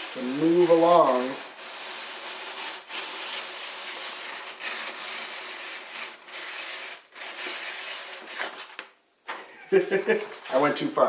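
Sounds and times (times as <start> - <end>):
paper scraping against cardboard: 0.0 - 8.8, 10.0 - 10.8.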